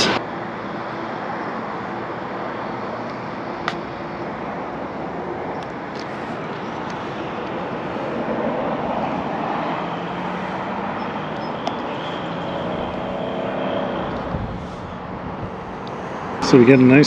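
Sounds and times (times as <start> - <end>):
passing traffic engine noise: 0.0 - 17.0.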